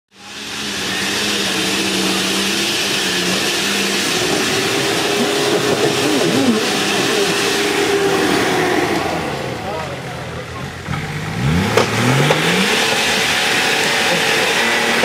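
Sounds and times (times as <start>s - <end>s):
broad rushing noise: 0.1s - 15.0s
vehicle engine humming: 0.1s - 15.0s.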